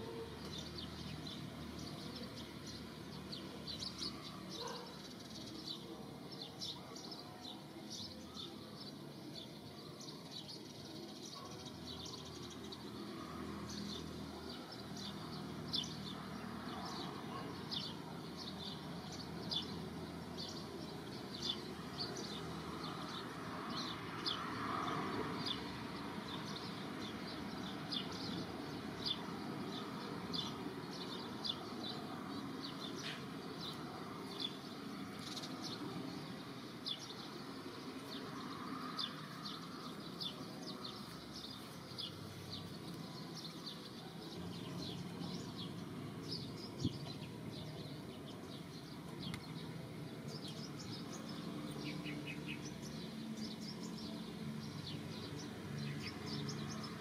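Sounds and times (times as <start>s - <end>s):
birds chirping: 0.0s - 57.0s
steady outdoor hiss: 0.0s - 57.0s.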